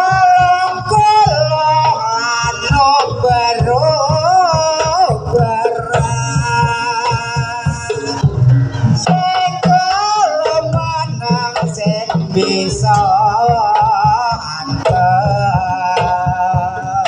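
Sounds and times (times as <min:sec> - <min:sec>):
rapid irregular drum beats: 0:00.0 - 0:17.0.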